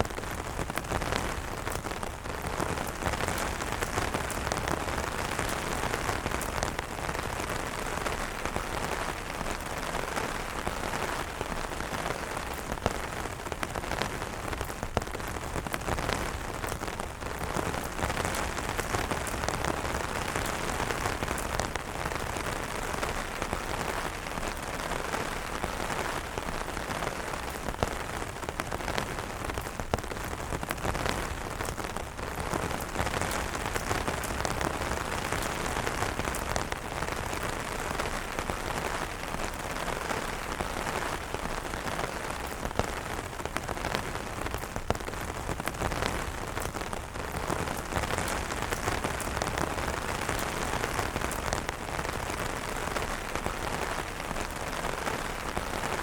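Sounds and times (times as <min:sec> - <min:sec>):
rain falling on umbrellas: 0:00.0 - 0:56.0.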